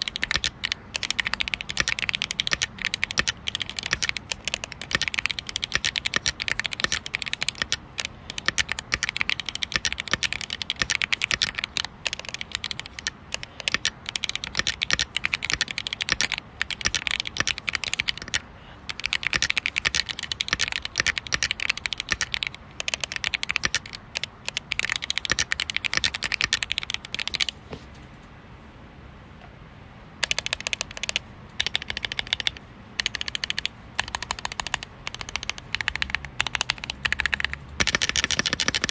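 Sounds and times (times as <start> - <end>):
fast keyboard typing: 0.0 - 27.6, 30.2 - 38.9.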